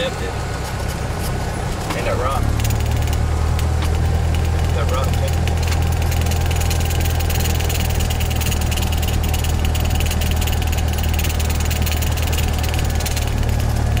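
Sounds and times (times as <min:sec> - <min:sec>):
light aircraft engine and propeller: 0:00.0 - 0:14.0.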